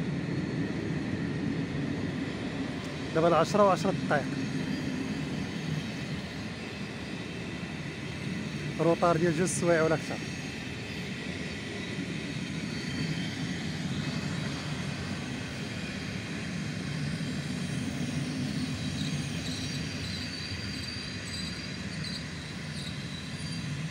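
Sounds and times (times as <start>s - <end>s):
train wheels rumbling on rails: 0.0s - 23.9s
faint high squeal: 2.8s - 23.9s.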